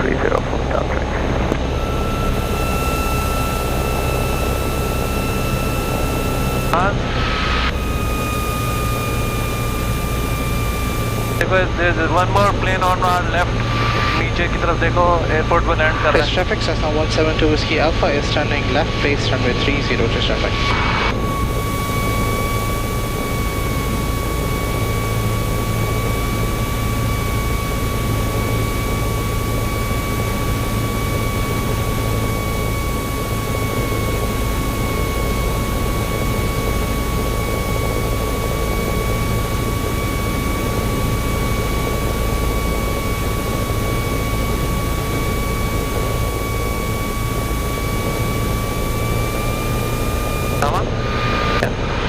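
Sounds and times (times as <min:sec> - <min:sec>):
propeller plane engine droning: 0:00.0 - 0:52.0
thin steady whine: 0:00.0 - 0:52.0.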